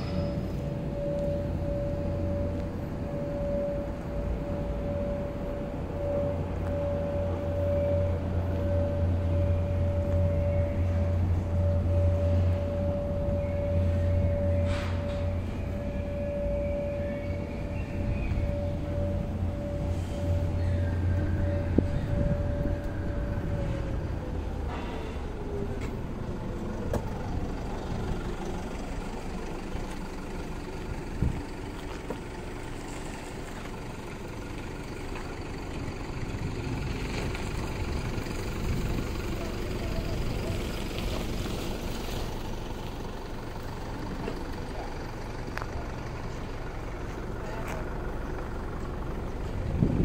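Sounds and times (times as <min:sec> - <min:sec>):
truck engine running: 0:00.0 - 0:50.0.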